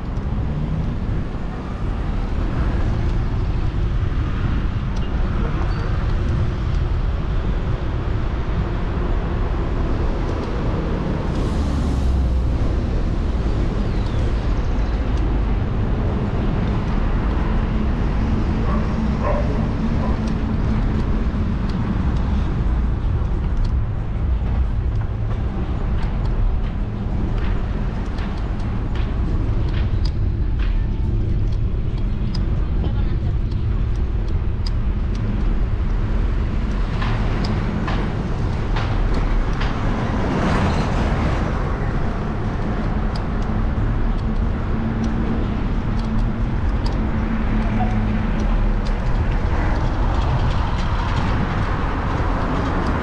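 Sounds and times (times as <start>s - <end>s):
bicycle riding rumble: 0.0s - 53.0s
road traffic: 0.0s - 53.0s.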